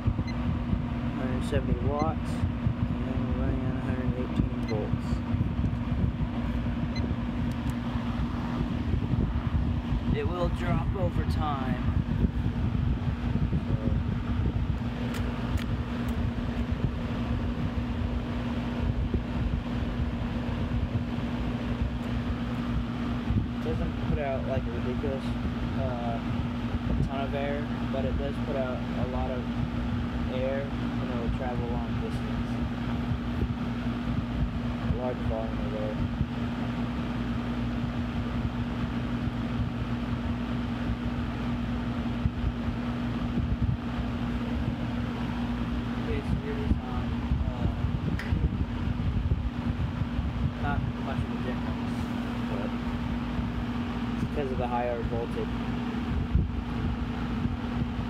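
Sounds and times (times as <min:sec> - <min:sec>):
electric motor hum: 0:00.0 - 0:58.0
fan air rush: 0:00.0 - 0:58.0.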